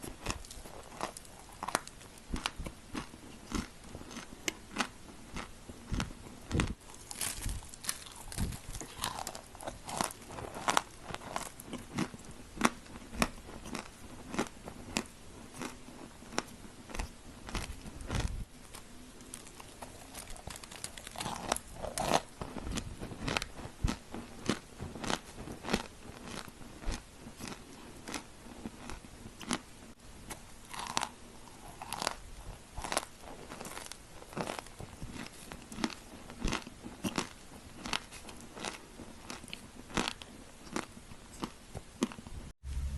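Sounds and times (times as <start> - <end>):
cookie crunching being chewed: 0.0 - 29.7, 30.3 - 42.3.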